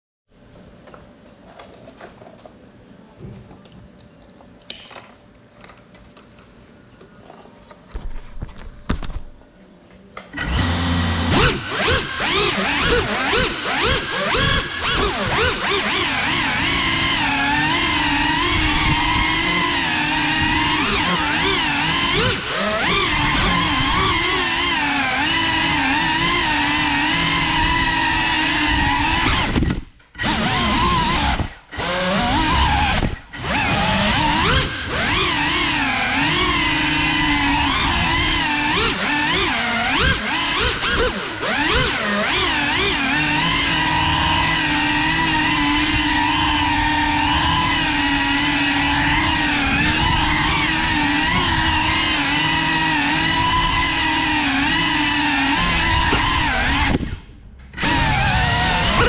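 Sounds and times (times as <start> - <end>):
drone motors whining: 10.4 - 59.0.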